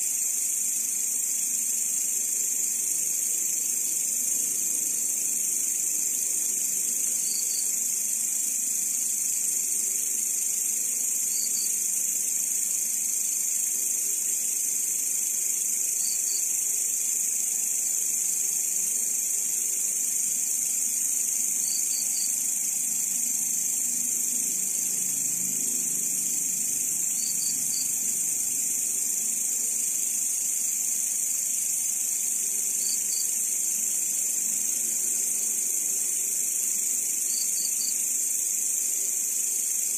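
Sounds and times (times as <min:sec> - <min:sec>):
short insect chirp: 0:00.0 - 0:39.9
grasshoppers buzzing: 0:00.2 - 0:39.9.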